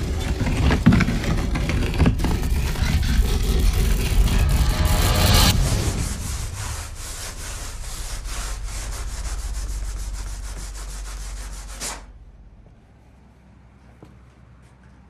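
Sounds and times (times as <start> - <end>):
rapid scratching strokes: 0.0 - 12.2
low rumble: 0.0 - 13.3.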